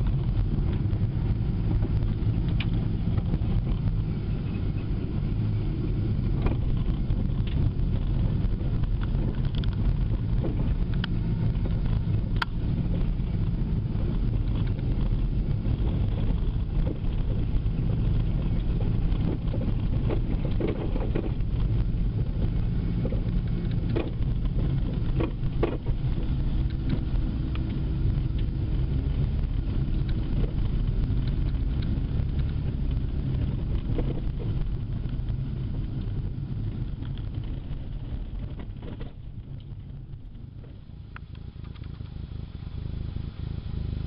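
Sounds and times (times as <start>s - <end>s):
car road noise rumble: 0.0s - 44.0s.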